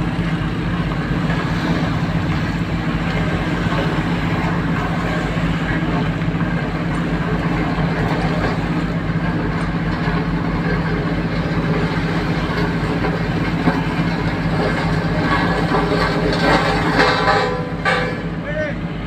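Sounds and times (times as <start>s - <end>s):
vibrating roller drum pulsing: 0.0s - 18.5s
diesel engine humming: 0.0s - 19.0s.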